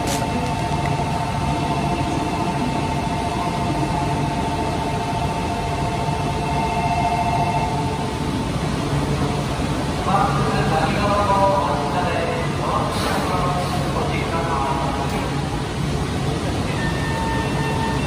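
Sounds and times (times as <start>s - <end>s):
low hum of stationary train: 0.0s - 18.0s.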